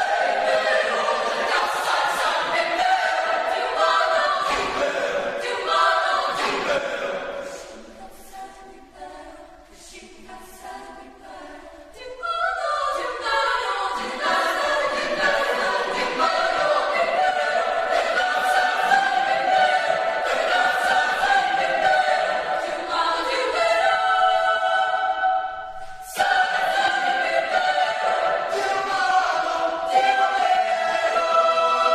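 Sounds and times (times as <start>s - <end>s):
choir singing a cappella: 0.0s - 31.9s.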